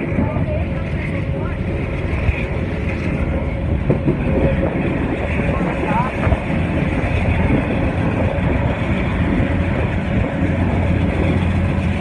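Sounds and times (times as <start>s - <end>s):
train rumbling and rattling on track: 0.0s - 12.0s.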